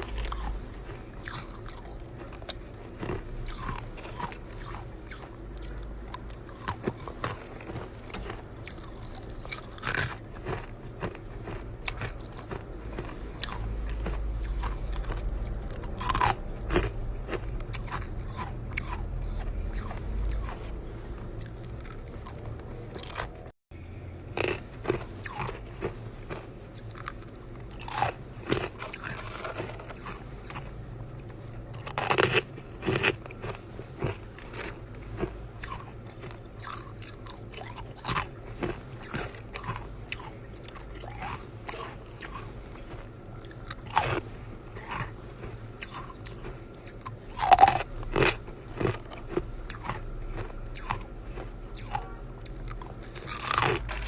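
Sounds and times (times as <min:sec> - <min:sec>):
chewing ice crunches: 0:00.0 - 0:23.6, 0:24.3 - 0:54.0
low hum: 0:00.0 - 0:54.0.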